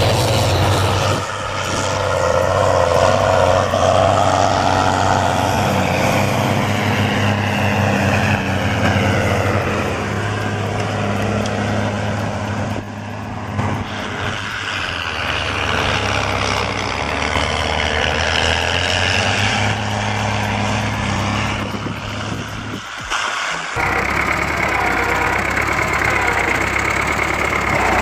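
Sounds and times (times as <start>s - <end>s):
broad rushing noise: 0.0s - 28.0s
heavy vehicle engine running: 0.0s - 28.0s.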